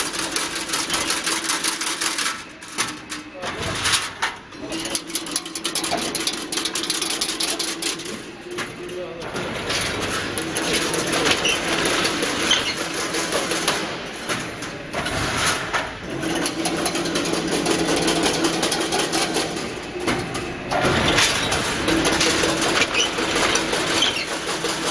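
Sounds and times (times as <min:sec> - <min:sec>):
rapid clatter of metal parts: 0:00.0 - 0:24.9.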